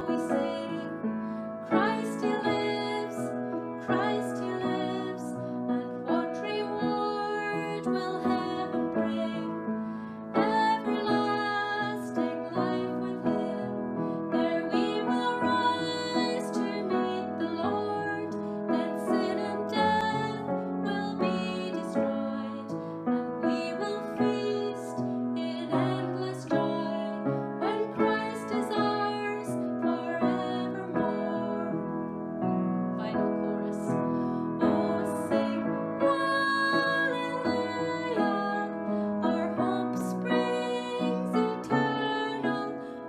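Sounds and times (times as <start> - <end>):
woman singing a hymn: 0.0 - 32.0, 32.9 - 43.0
upright piano: 0.0 - 43.0.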